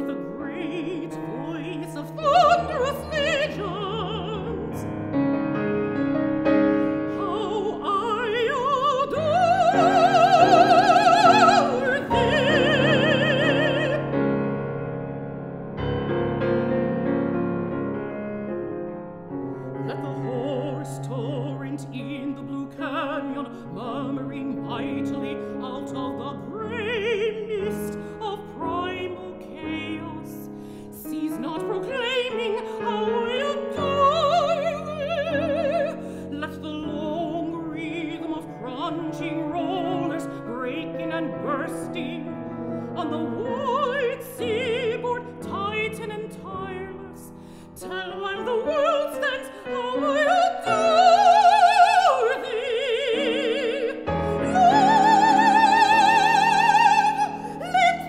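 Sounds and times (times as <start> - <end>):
soprano singing with vibrato: 0.0 - 5.2, 6.8 - 14.4, 19.8 - 58.0
piano accompaniment: 0.0 - 58.0.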